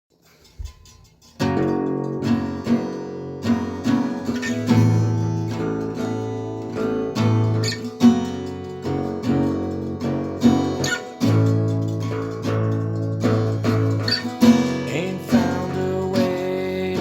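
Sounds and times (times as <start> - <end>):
acoustic guitar strumming: 0.2 - 17.0.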